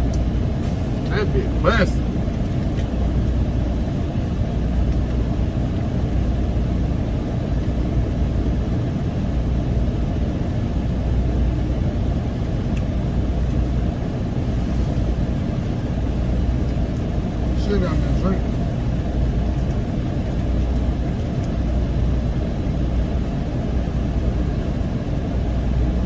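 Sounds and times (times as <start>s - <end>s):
vehicle engine and road rumble: 0.0s - 26.0s.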